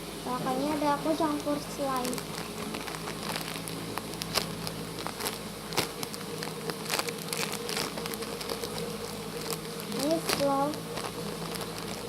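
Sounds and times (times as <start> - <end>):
steady buzzing hum: 0.0 - 12.0
squishy toy in plastic bag crackling: 0.5 - 12.0.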